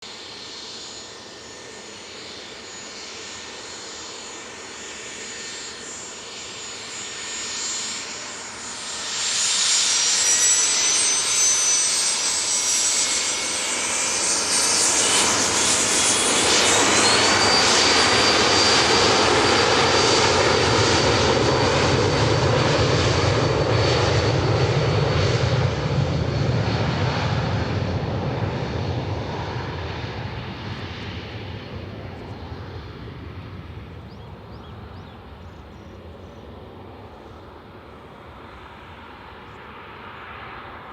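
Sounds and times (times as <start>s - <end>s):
jet engines high whine: 0.0s - 40.9s.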